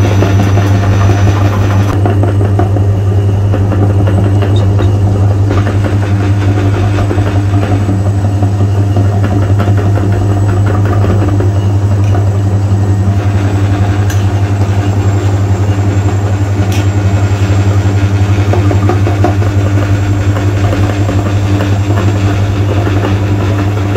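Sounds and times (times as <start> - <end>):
meat grinder motor hum: 0.0 - 23.9.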